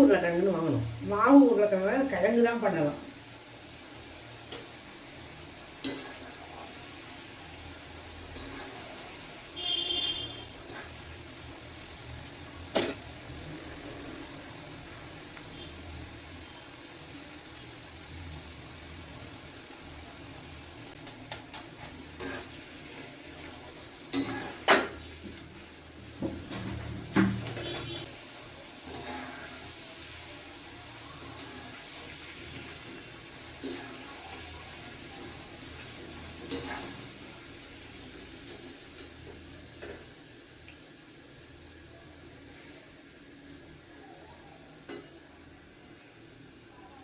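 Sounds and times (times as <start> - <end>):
plantain slices sizzling in oil: 0.0 - 47.0.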